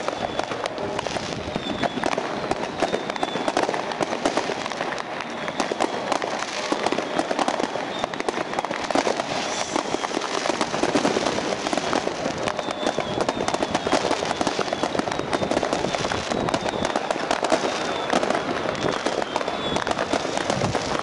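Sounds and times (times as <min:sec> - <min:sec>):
faint high whistle: 0:00.0 - 0:04.1, 0:05.2 - 0:11.0, 0:12.2 - 0:21.0
fireworks bangs and crackles: 0:00.0 - 0:21.0.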